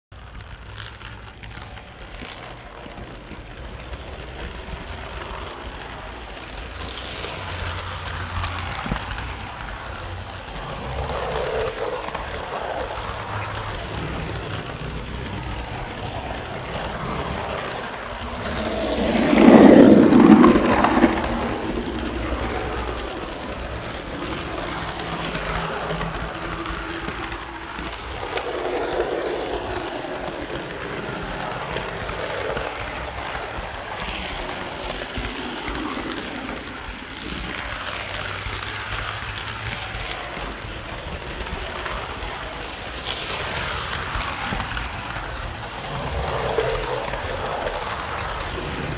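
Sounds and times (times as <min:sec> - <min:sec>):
model train rumbling on track: 0:00.1 - 0:48.9.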